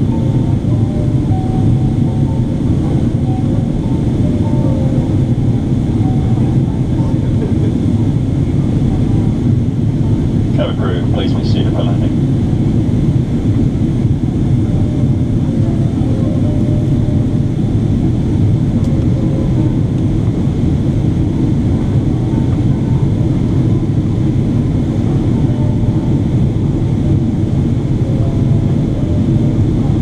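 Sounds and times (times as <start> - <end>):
aircraft cabin engine roar: 0.0 - 30.0.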